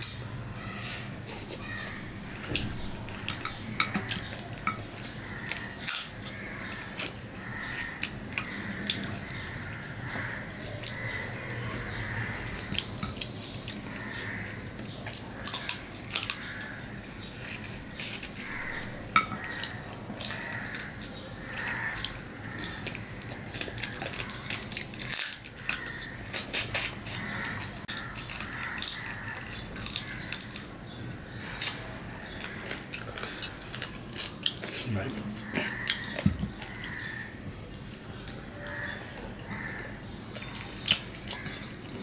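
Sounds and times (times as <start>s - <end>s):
person chewing meat off bone: 0.9s - 30.8s, 31.6s - 34.8s, 39.1s - 42.0s.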